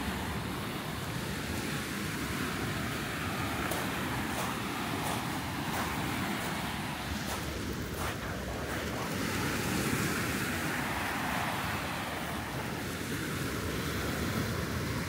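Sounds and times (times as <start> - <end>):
sea waves washing onto beach: 0.0 - 15.0
wind rumbling on microphone: 0.0 - 15.0.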